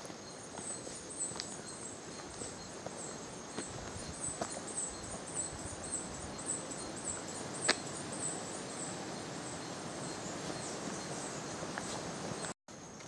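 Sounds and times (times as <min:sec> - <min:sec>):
forest hiss: 0:00.0 - 0:13.0.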